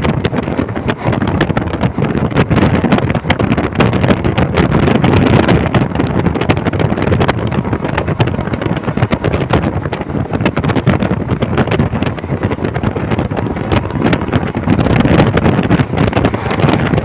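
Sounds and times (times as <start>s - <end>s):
train rumble and rattle: 0.0s - 17.0s
wind buffeting microphone: 0.0s - 17.0s.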